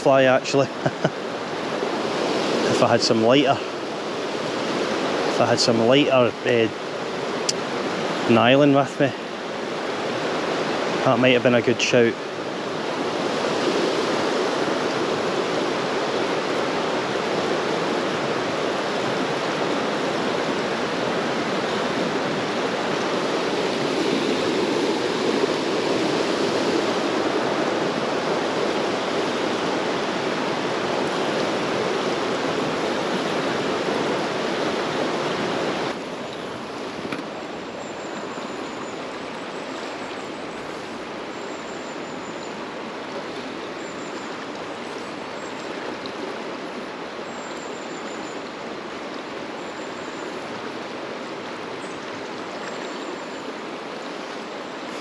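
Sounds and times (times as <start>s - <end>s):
river water rushing over riffle: 0.0s - 55.0s.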